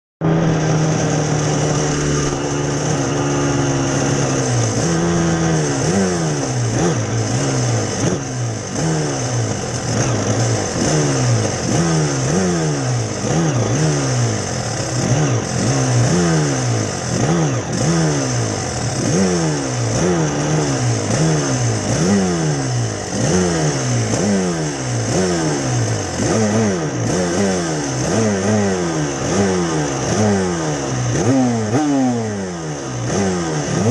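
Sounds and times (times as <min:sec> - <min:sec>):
two-stroke race engine revving: 0:00.2 - 0:33.9.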